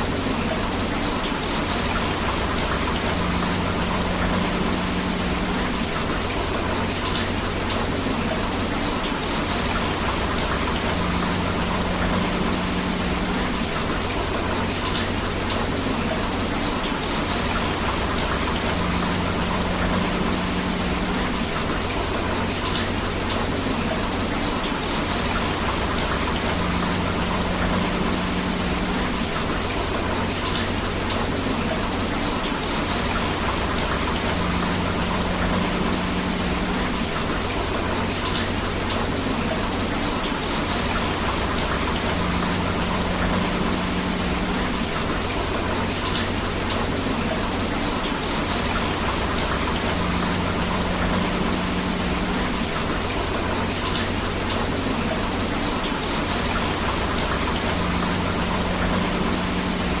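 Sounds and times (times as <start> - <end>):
rushing river water: 0.0 - 60.0
steady rain falling: 0.0 - 60.0.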